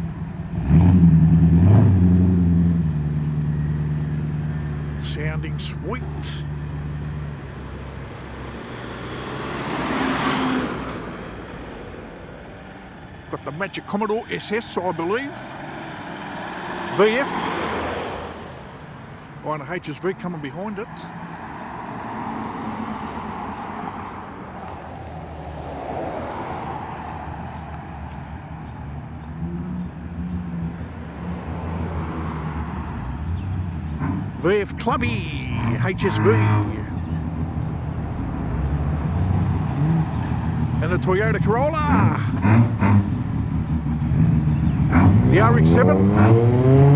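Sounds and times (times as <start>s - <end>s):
car engine running low: 0.0s - 22.0s, 23.0s - 46.9s
car approaching: 0.0s - 46.9s
tyre and road noise: 0.0s - 46.9s.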